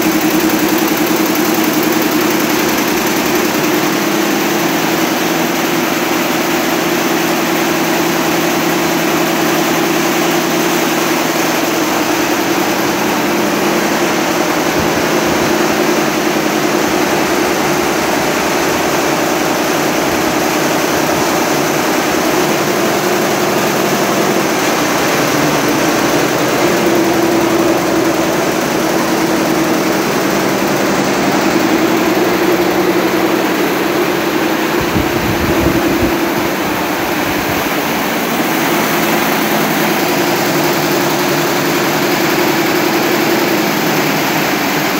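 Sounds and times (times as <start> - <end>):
constant machine hum: 0.0 - 44.9
quilting machine stitching: 0.0 - 44.9.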